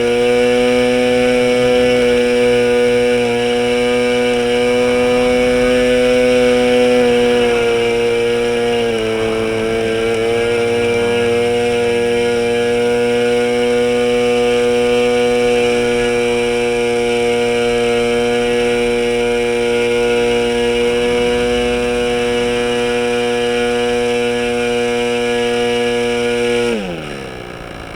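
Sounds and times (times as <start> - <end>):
model engine high buzz: 0.0 - 27.9.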